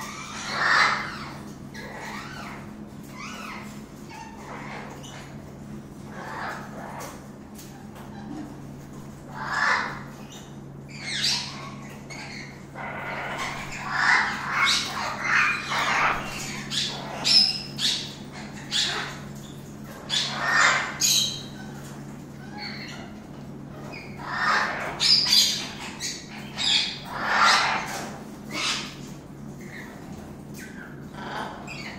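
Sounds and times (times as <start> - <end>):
parrot squawking: 0.0 - 8.5, 9.2 - 31.9.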